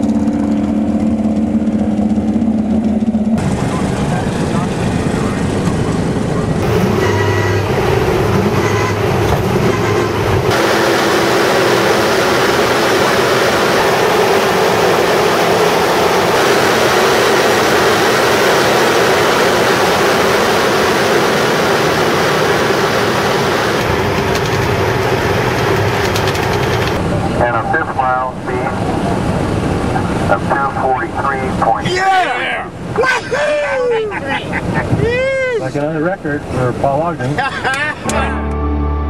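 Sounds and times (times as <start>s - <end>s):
race car engine and wind noise: 0.0s - 38.3s.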